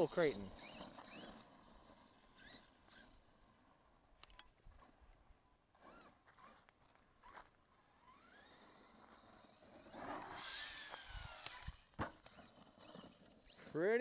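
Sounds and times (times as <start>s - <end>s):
electric motor whining: 0.0s - 3.3s, 5.8s - 14.0s.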